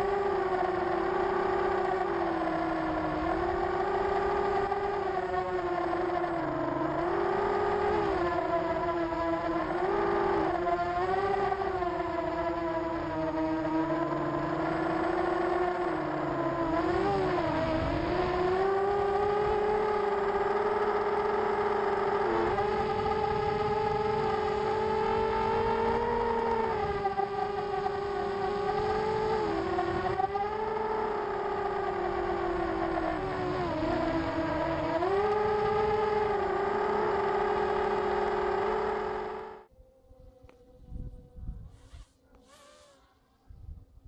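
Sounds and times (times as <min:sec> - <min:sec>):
quadcopter motors whining: 0:00.0 - 0:44.0.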